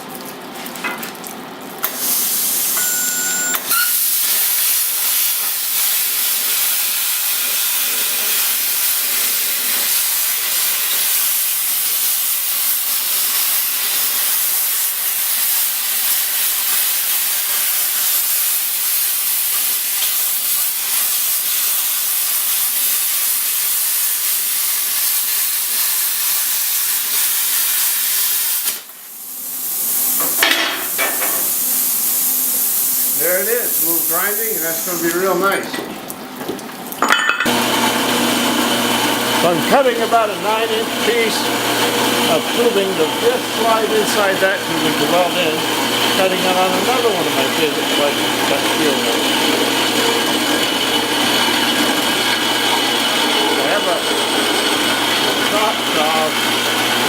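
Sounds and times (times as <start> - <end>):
plasma torch cutting steel: 1.8 - 35.4, 37.5 - 57.0.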